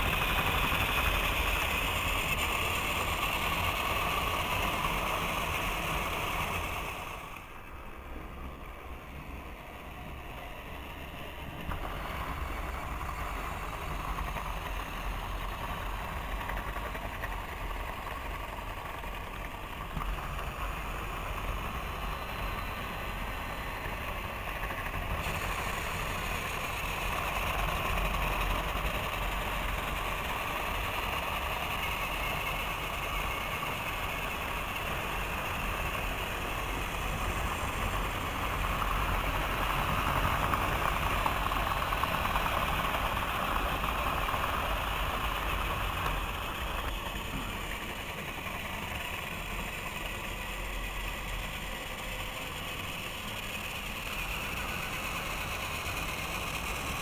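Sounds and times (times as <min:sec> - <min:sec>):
toy train wheels rattling: 0:00.0 - 0:07.4, 0:10.0 - 0:57.0
toy train motors whirring: 0:00.0 - 0:57.0.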